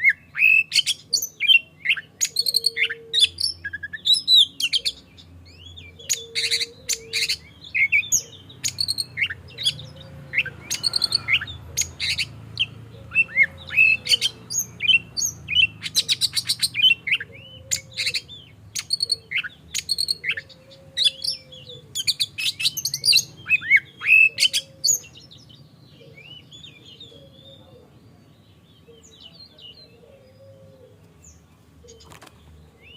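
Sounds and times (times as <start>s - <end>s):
songbird singing whistles and trills: 0.0s - 27.7s.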